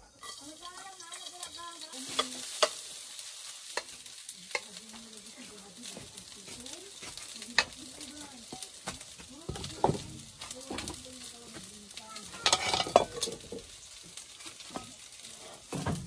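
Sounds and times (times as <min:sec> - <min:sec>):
metal spatula scraping a pan: 0:00.0 - 0:11.6, 0:12.2 - 0:16.0
food sizzling in a pan: 0:00.0 - 0:16.0.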